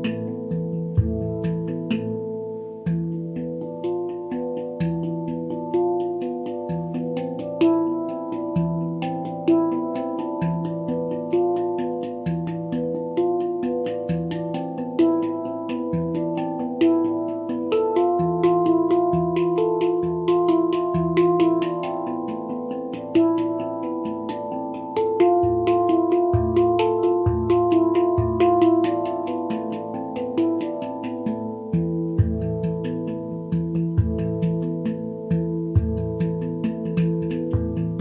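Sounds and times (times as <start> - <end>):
handpan notes ringing: 0.0 - 38.0.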